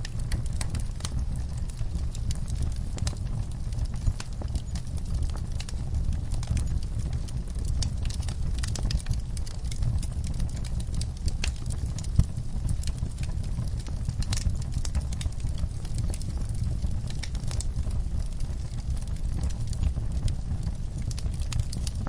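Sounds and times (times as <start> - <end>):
fire pops and snaps: 0.0 - 22.0
low fire rumble: 0.0 - 22.0
wood fire crackling: 0.0 - 22.0.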